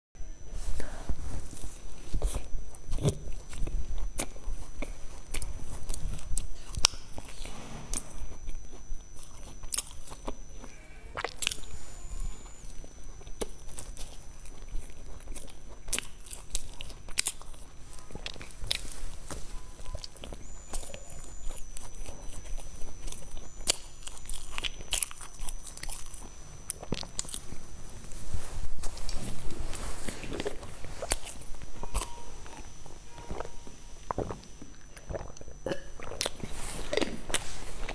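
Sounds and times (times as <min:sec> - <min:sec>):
faint high whine: 0:00.2 - 0:37.9
biting and chewing cake: 0:00.4 - 0:37.9.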